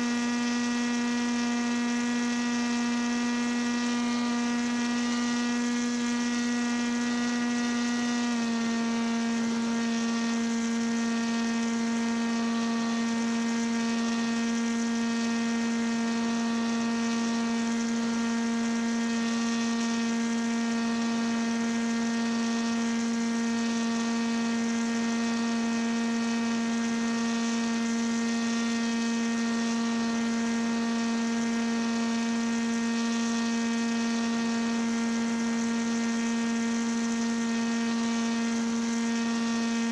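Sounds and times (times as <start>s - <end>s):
paramotor engine humming: 2.3s - 39.9s.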